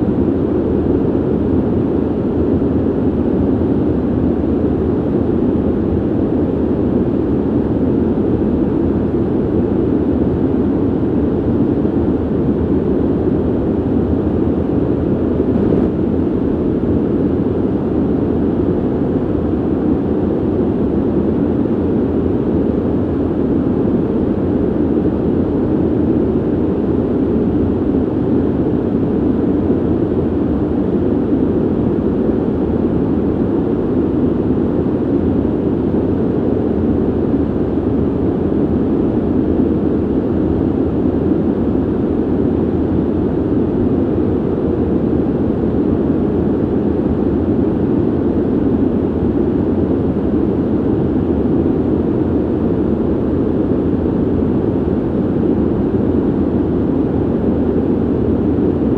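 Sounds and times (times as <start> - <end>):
ventilation air rushing: 0.0 - 58.9.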